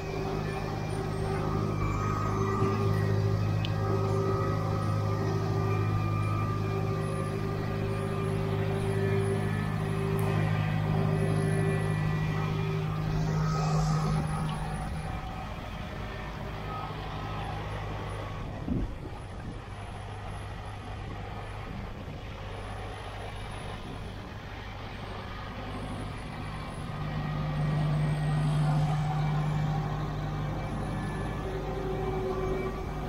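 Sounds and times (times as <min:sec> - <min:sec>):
steady low hum: 0:00.0 - 0:33.0
tractor diesel engine running: 0:00.0 - 0:33.0.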